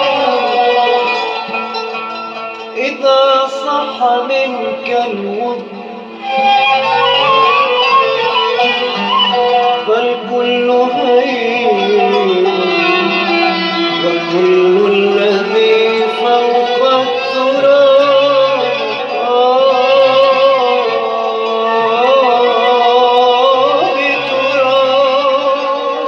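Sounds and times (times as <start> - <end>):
wavering melody over low line: 0.0 - 26.0.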